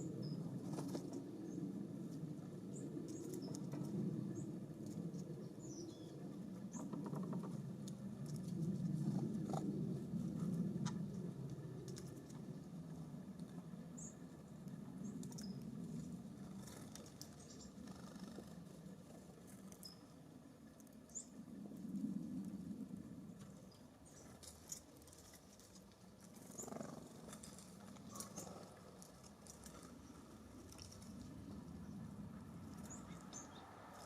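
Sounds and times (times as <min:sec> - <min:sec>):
birds pecking and scrabbling: 0:00.0 - 0:34.0
wind rumbling on microphone: 0:00.0 - 0:34.0.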